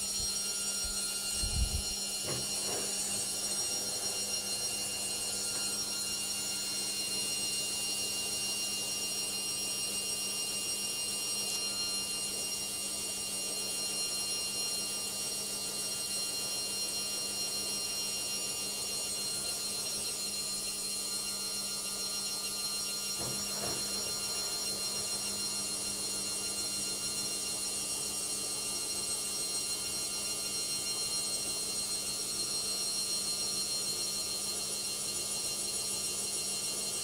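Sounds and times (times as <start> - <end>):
washing machine spin whine: 0.0 - 37.0.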